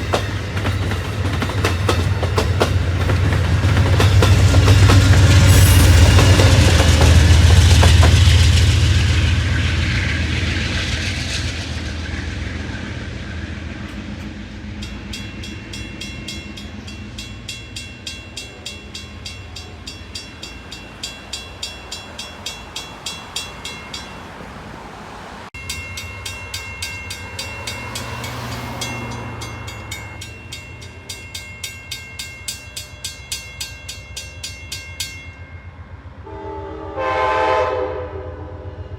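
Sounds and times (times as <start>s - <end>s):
crossing warning bell ringing: 0.0s - 9.3s, 13.8s - 36.6s
train rumbling past: 0.0s - 38.9s.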